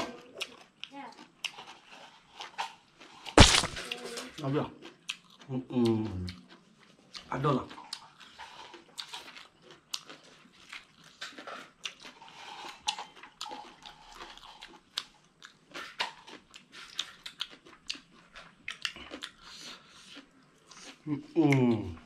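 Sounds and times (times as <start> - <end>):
people chewing and crunching: 0.0 - 22.0.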